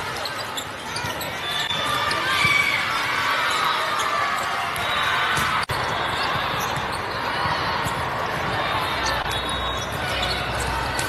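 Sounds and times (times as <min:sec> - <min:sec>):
indistinct voices in hall: 0:00.0 - 0:11.0.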